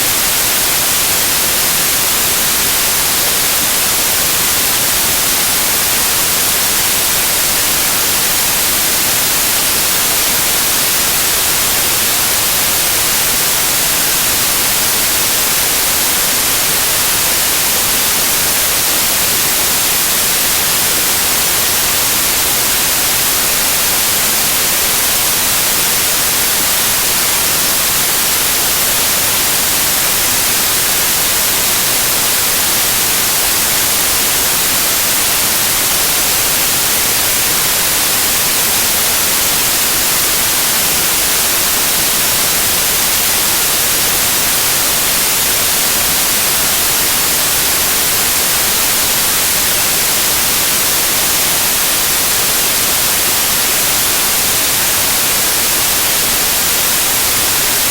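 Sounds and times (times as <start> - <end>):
steady white noise hiss: 0.0 - 57.9.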